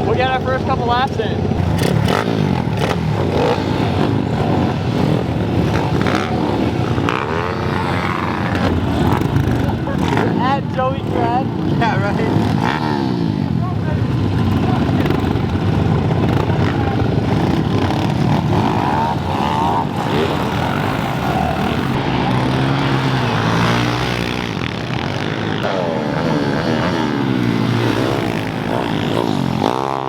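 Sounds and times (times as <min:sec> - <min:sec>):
pit bike engines revving: 0:00.0 - 0:30.0.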